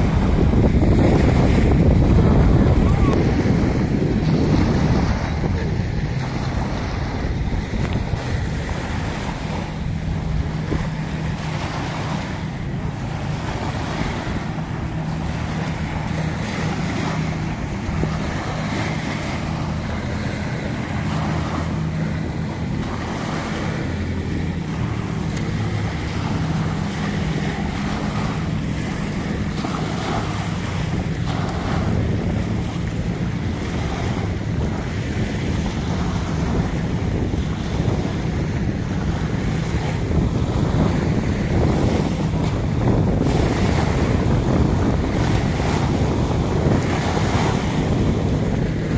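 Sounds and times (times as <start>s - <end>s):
small waves lapping on sand: 0.0s - 48.9s
wind rumbling on microphone: 0.0s - 48.9s.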